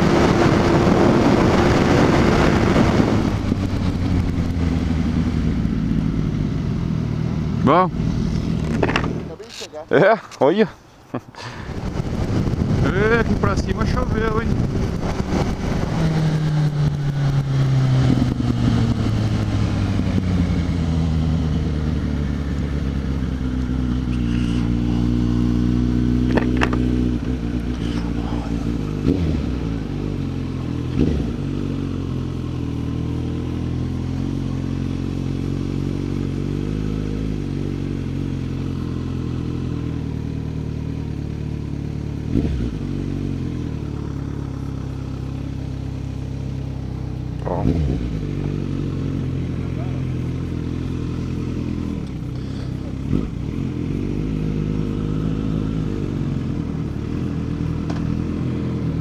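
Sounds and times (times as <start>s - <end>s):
motorcycle engine: 0.0s - 10.4s, 11.4s - 59.0s.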